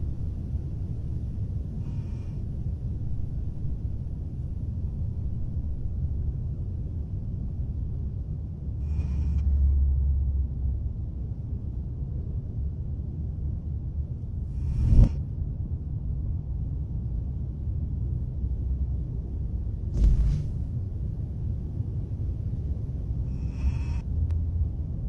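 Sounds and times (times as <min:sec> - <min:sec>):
deep low rumble: 0:00.0 - 0:25.0.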